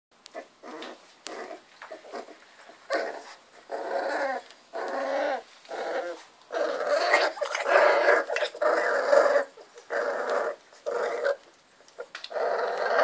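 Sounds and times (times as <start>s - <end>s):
puppies growling and whining: 0.3s - 13.0s.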